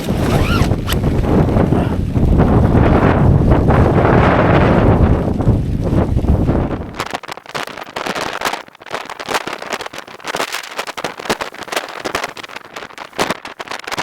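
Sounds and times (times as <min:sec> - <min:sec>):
heavy rain on tent fabric: 0:00.0 - 0:14.0.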